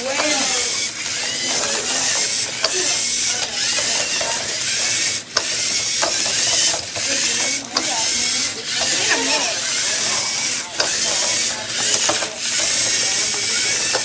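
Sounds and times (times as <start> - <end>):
robot motors whirring and grinding: 0.0 - 14.0.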